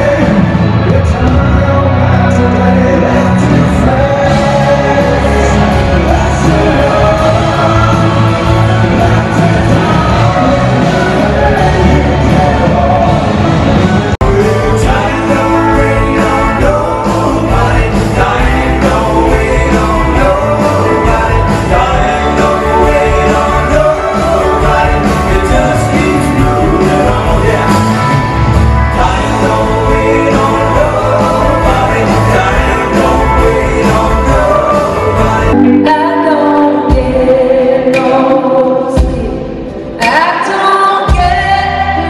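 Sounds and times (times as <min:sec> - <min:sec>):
country-rock band playing: 0:00.0 - 0:42.0
man singing: 0:00.0 - 0:42.0
rock band with orchestra: 0:00.0 - 0:42.0.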